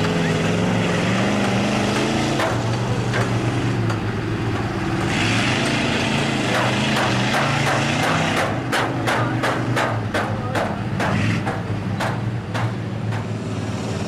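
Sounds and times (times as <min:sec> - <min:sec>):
truck engine revving under load: 0:00.0 - 0:14.0.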